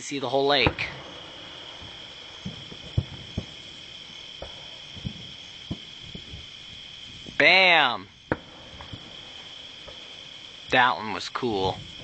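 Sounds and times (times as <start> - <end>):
crickets chirring: 0.0 - 12.0
distant fireworks thuds: 0.5 - 12.0.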